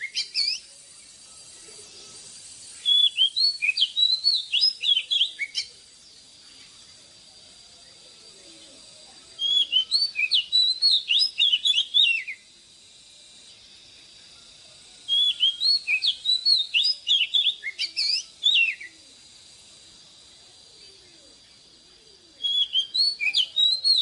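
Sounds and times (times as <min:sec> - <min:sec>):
bird singing whistled notes: 0:00.0 - 0:06.7, 0:07.7 - 0:12.6, 0:14.2 - 0:24.0.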